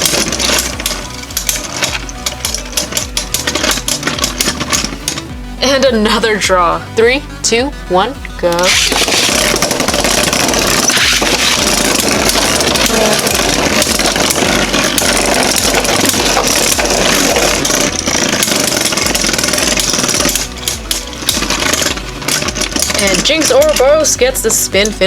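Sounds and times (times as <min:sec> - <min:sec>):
rapid clicking hits: 0:00.0 - 0:05.9, 0:08.5 - 0:25.0
spinning tops whirring and rattling: 0:00.0 - 0:06.4, 0:08.5 - 0:25.0.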